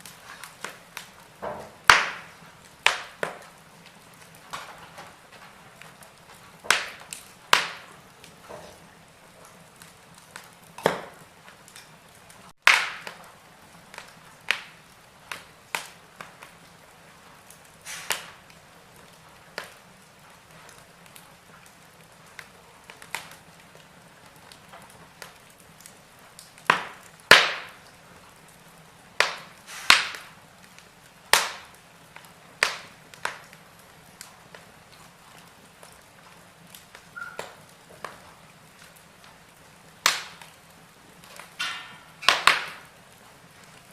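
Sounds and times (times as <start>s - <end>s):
faint steady hiss: 0.0s - 43.9s
wood fire crackling and popping: 0.0s - 43.9s.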